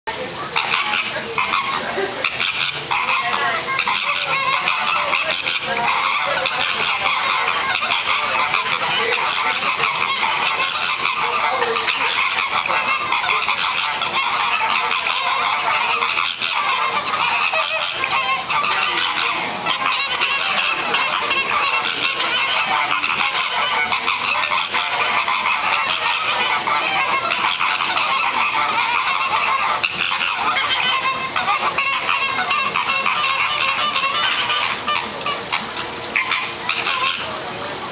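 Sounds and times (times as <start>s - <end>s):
flamingos honking: 0.1s - 37.9s.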